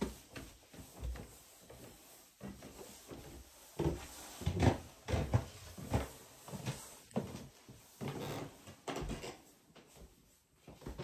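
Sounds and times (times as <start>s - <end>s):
footsteps on wooden stairs: 0.0s - 11.0s.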